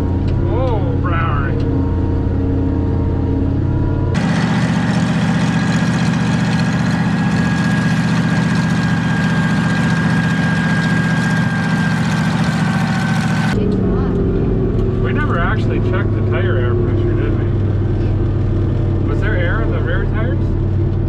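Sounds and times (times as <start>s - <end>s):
combine engine running: 0.0s - 21.0s.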